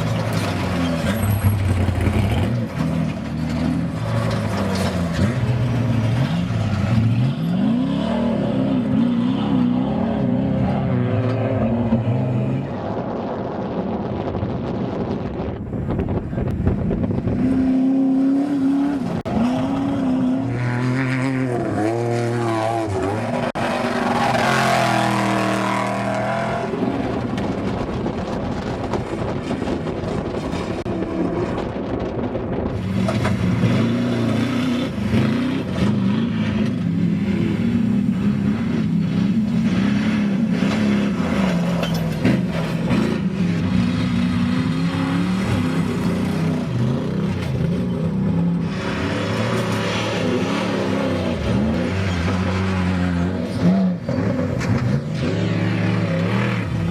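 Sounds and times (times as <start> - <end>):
race truck engines revving: 0.0 - 56.9.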